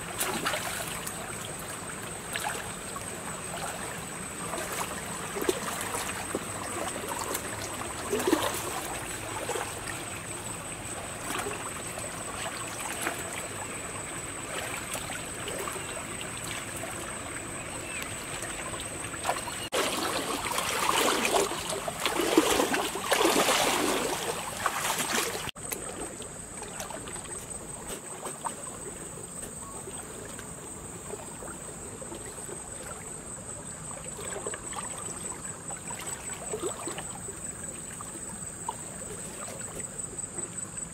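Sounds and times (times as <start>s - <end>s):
water sloshing and splashing: 0.0s - 40.9s.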